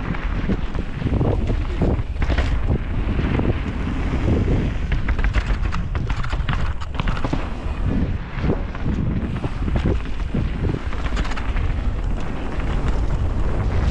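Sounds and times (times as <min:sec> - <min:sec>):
bike clicking and rattling: 0:00.0 - 0:13.9
wind buffeting microphone: 0:00.0 - 0:13.9.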